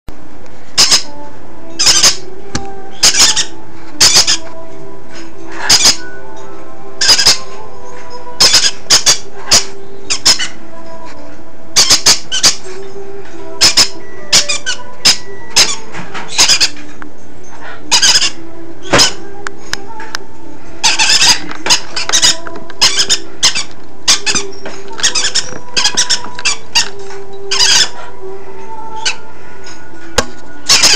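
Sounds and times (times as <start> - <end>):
parrot chicks squeaking: 0.6 - 30.9.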